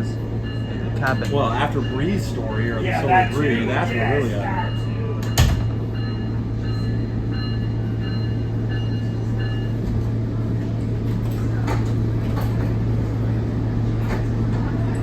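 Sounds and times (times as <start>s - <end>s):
train engine hum: 0.0s - 15.0s.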